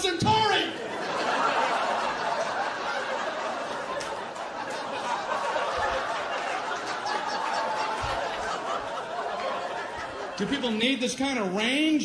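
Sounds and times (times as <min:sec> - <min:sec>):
audience laughing: 0:00.6 - 0:11.4.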